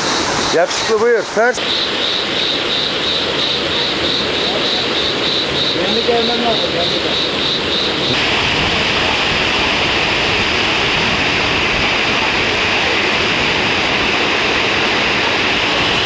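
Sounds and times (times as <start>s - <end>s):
water rushing over a weir: 0.0s - 16.0s.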